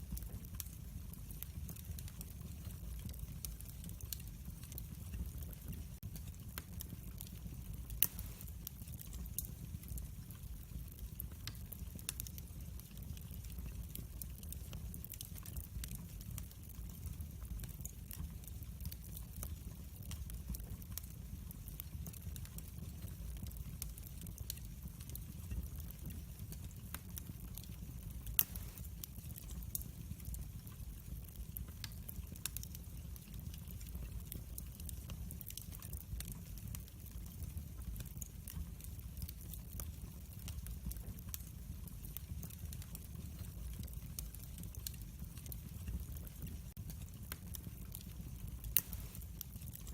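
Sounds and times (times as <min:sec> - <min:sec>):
fire pops and snaps: 0:00.0 - 0:49.9
low rumble of flames: 0:00.0 - 0:49.9
wood fire crackling: 0:00.0 - 0:49.9.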